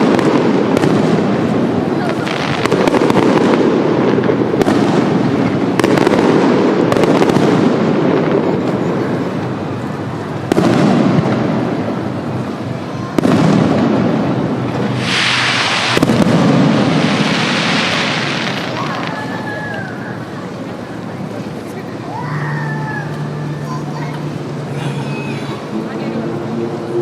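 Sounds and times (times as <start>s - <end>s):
crackling sizzling firework shell: 0.0s - 21.9s
fireworks bursting with rumble: 0.0s - 24.7s.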